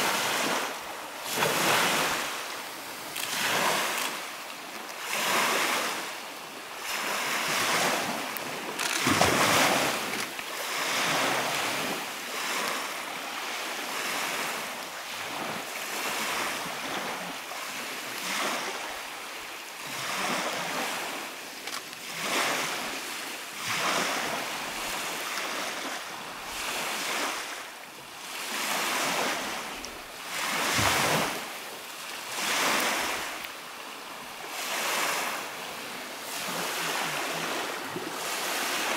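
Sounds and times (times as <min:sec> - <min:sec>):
waves washing onto gravel shore: 0:00.0 - 0:38.9
wind: 0:00.0 - 0:38.9.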